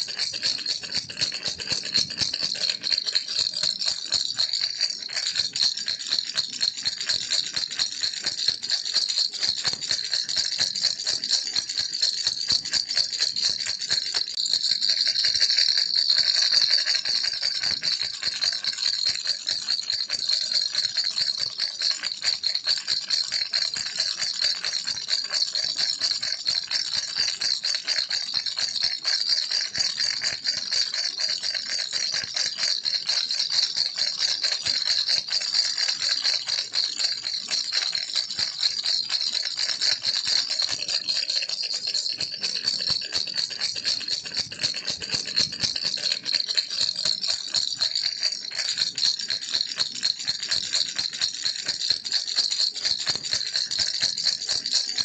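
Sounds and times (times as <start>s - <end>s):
baby rattle shaking: 0.0s - 55.0s.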